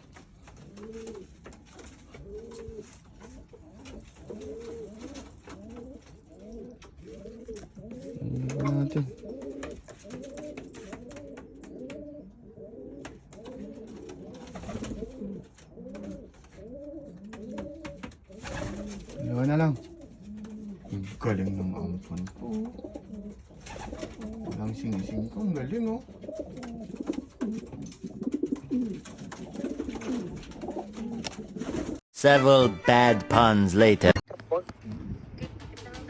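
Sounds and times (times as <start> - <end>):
pigeons cooing: 0.0 - 21.2, 21.9 - 32.0.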